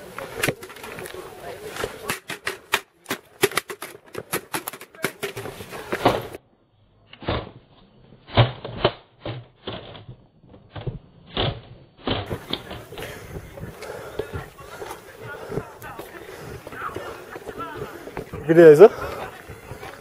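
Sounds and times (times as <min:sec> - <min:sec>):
knocks and clatters on stone paving: 0:00.1 - 0:06.4, 0:08.7 - 0:20.0.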